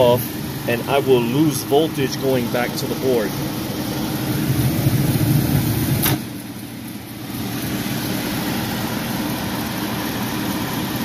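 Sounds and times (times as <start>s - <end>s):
blower motor hum: 0.0s - 11.0s
gas furnace running: 0.0s - 11.0s.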